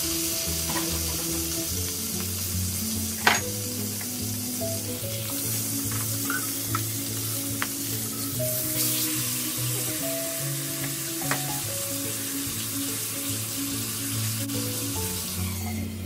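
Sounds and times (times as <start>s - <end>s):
steak sizzling in frying pan: 0.0s - 16.0s.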